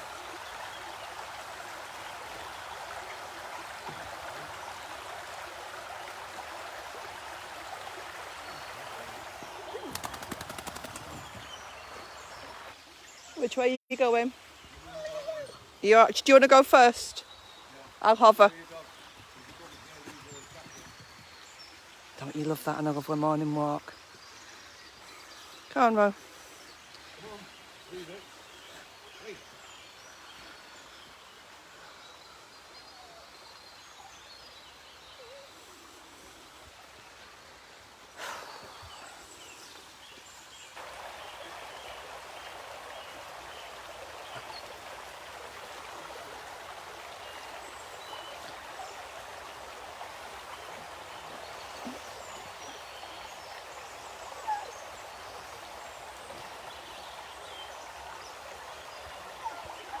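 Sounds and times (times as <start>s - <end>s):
river water flowing: 0.0s - 60.0s.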